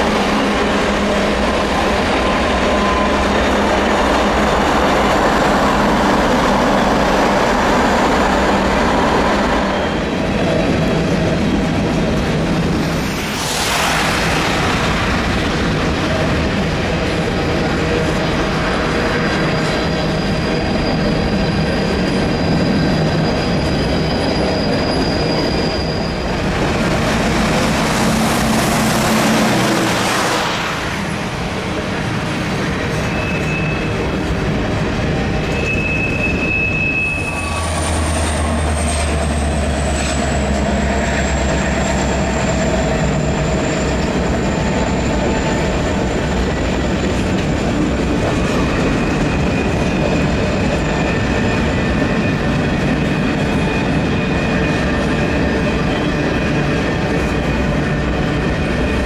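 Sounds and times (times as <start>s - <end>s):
train wheels on rails: 0.0s - 59.0s
high wheel squeal: 0.5s - 13.5s, 15.9s - 59.0s.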